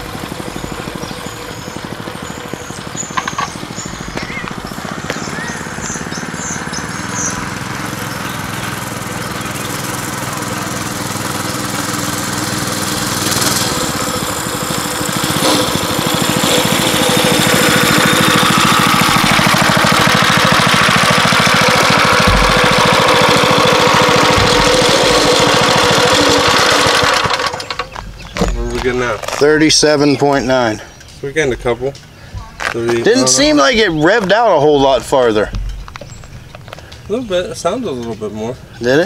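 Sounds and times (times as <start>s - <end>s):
mini bike engine at full throttle: 0.0s - 30.8s, 32.4s - 39.0s.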